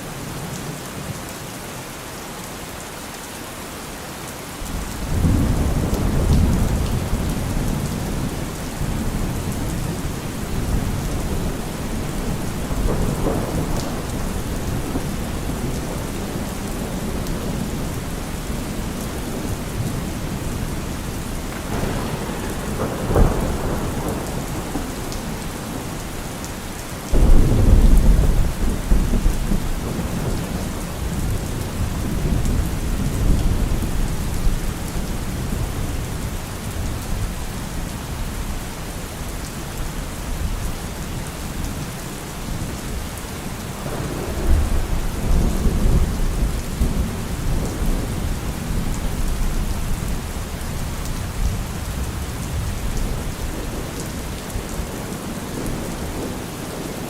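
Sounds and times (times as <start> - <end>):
steady rain: 0.0 - 57.0
thunder clap and rumble: 4.6 - 38.6, 42.5 - 57.0.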